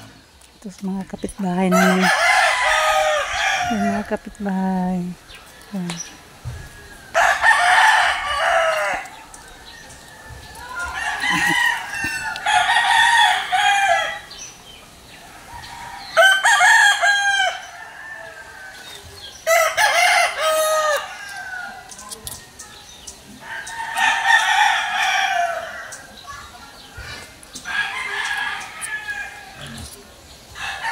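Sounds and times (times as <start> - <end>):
roosters crowing: 1.4 - 22.0, 23.4 - 30.9.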